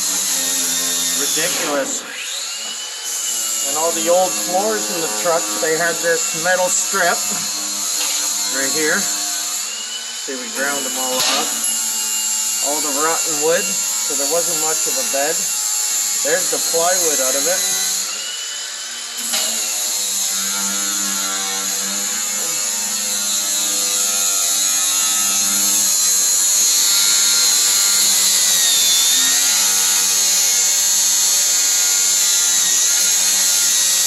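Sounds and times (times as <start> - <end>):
grinder grinding metal: 0.0 - 34.0.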